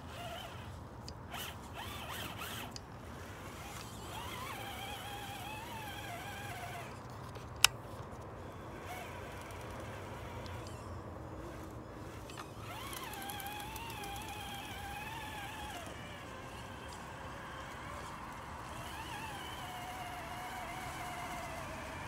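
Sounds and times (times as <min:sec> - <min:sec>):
electric motor whining: 0:00.0 - 0:07.7, 0:08.4 - 0:22.0.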